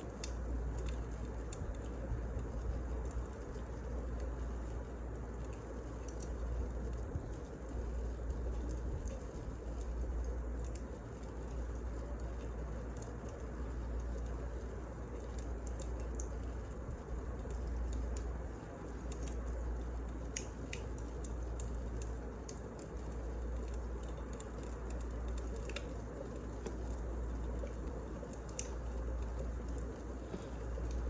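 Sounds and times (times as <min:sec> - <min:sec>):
fire crackling and popping: 0:00.0 - 0:31.0
wood fire rumbling and hissing: 0:00.0 - 0:31.0.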